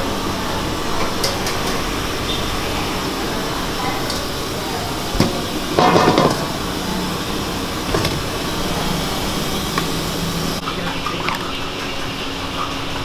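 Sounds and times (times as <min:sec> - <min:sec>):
food stall hum and hiss: 0:00.0 - 0:13.0.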